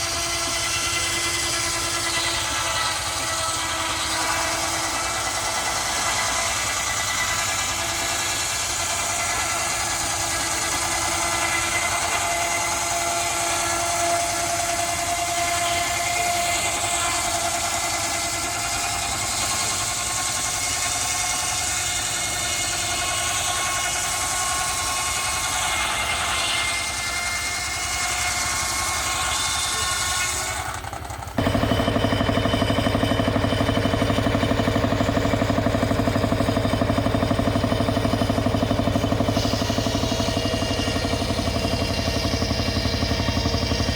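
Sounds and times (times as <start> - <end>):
engine with fast low beat: 0.0 - 43.9
machinery engine running: 0.0 - 43.9.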